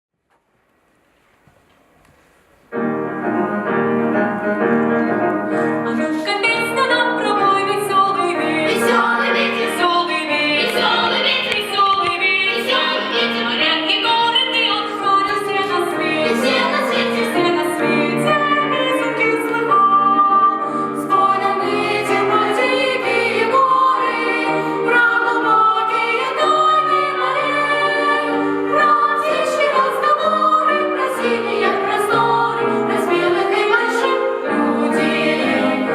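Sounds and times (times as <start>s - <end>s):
children's choir singing: 5.8s - 35.9s.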